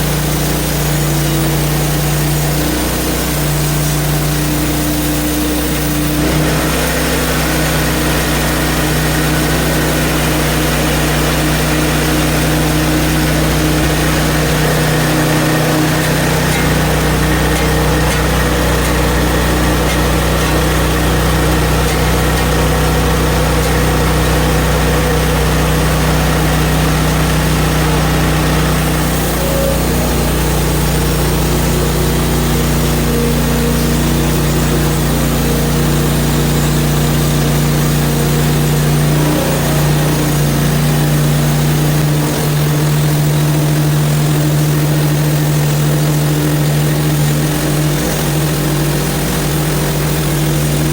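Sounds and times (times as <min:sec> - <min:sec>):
sawmill engine sawing a log: 0:00.0 - 0:50.9.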